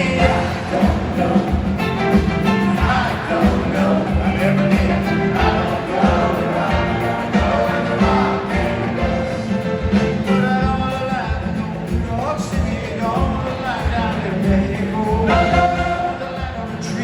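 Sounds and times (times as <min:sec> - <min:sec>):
group of voices singing: 0:00.0 - 0:17.0
live band music: 0:00.0 - 0:17.0.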